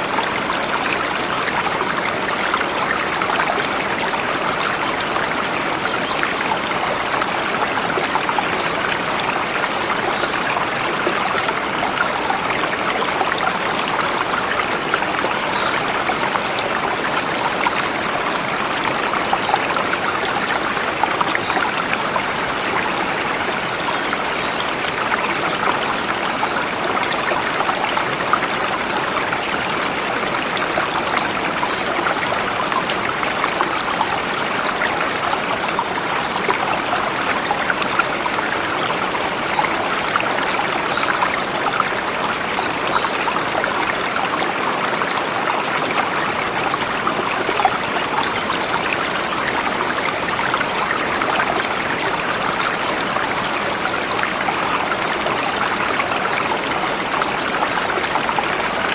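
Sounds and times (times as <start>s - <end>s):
river flowing over rocks: 0.0s - 58.9s.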